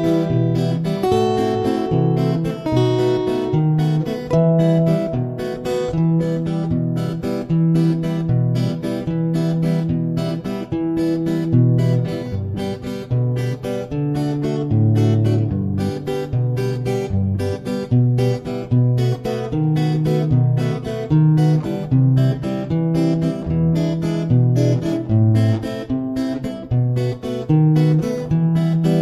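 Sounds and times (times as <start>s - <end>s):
acoustic guitar music: 0.0s - 29.0s.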